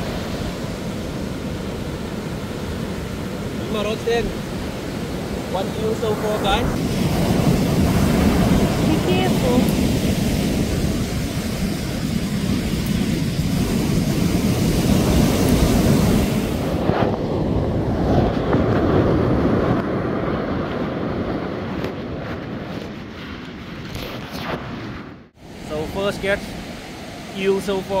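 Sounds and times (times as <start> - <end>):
breaking surf rumbling: 0.0 - 28.0
wind buffeting the microphone: 0.0 - 28.0.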